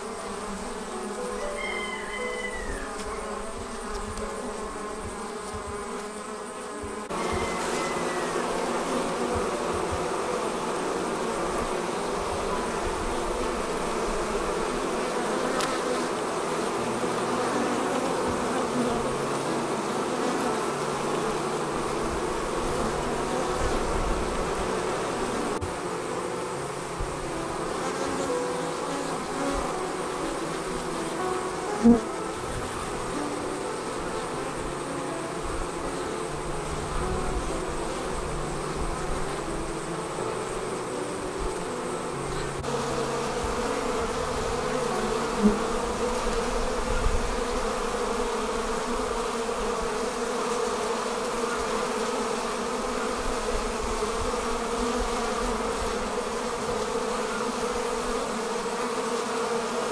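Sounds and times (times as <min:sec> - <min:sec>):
honey bees buzzing: 0:00.0 - 0:59.9.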